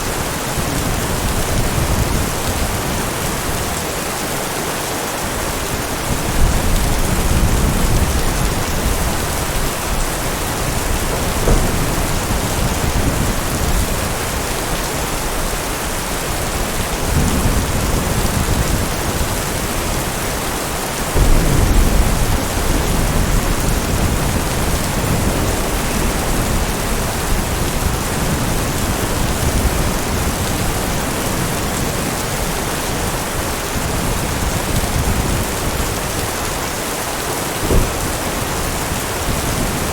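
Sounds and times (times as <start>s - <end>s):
heavy rain: 0.0s - 39.9s
thunder rumbling: 5.3s - 39.9s.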